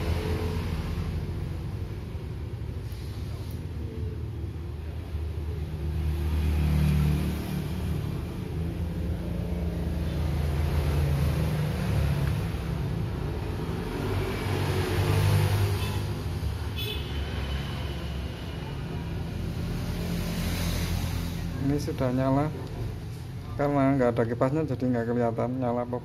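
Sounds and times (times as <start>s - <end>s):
passing vehicle engines rumbling: 0.0s - 26.0s.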